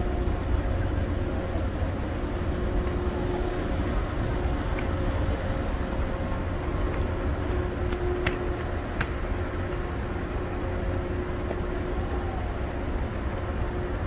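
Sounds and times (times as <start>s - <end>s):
ship engine rumble: 0.0s - 14.0s
steady hum: 0.0s - 14.0s.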